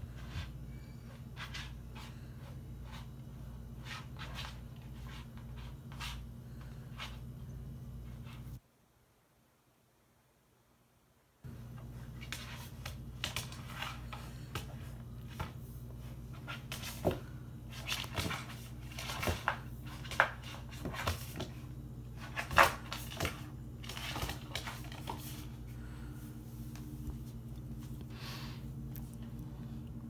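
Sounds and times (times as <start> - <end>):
steady low hum: 0.0 - 8.6, 11.4 - 30.0.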